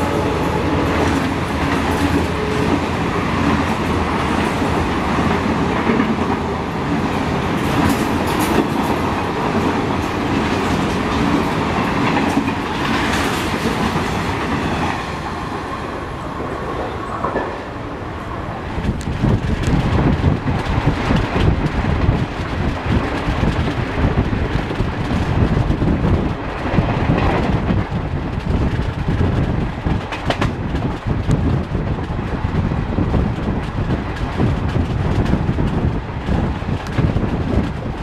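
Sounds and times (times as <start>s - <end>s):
train running on rails: 0.0s - 38.0s
wind buffeting microphone: 0.0s - 38.0s.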